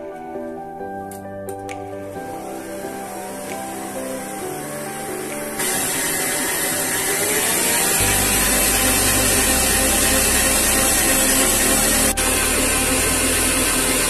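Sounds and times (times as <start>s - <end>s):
electric mixer motor humming: 2.1s - 14.0s.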